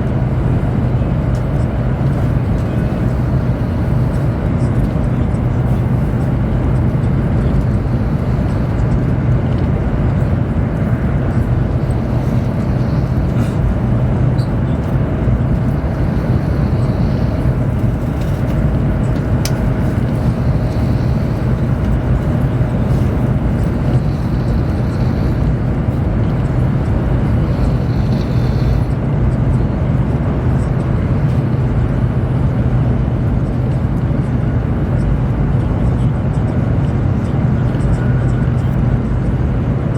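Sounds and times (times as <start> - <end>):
train carriage rumble and rush: 0.0 - 39.9.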